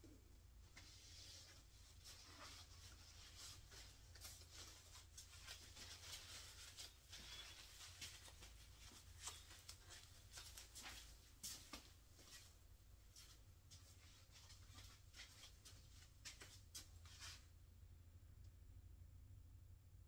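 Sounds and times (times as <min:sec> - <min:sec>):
light ticks and rustles: 0:00.7 - 0:17.5.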